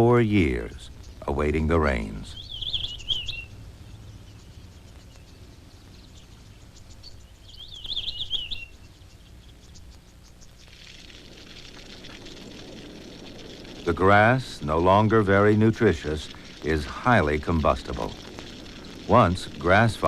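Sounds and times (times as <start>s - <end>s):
insects: 0.0s - 20.0s
soft hiss: 0.0s - 20.0s
songbird warbling: 0.0s - 20.0s.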